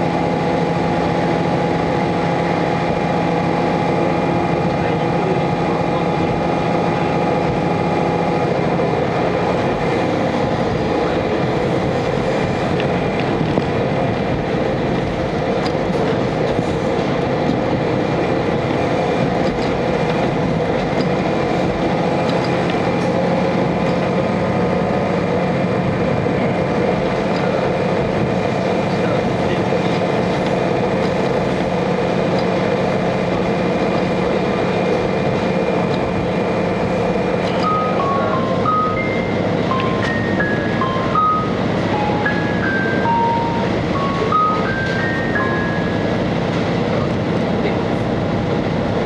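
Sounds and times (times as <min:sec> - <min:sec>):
diesel engine droning: 0:00.0 - 0:49.0
train wheels rolling on rails: 0:00.0 - 0:49.0.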